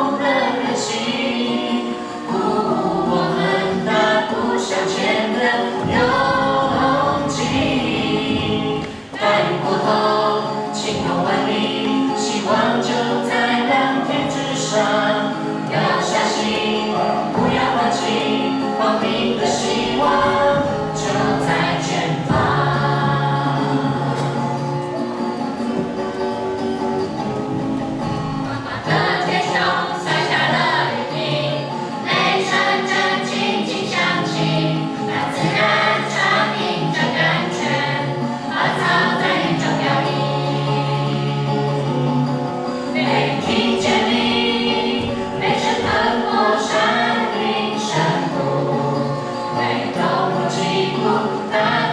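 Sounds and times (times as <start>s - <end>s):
choir singing in parts: 0.0s - 51.9s.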